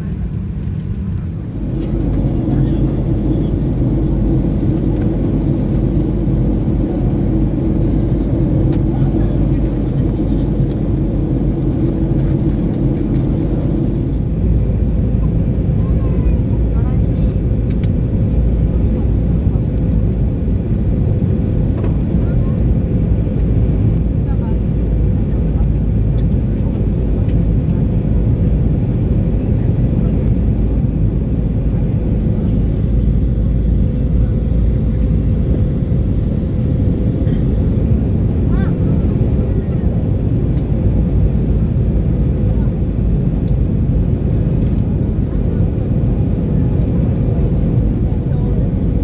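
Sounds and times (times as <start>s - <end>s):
aircraft engine and airflow roar: 0.0s - 49.0s
airplane cabin rumble: 0.0s - 49.0s.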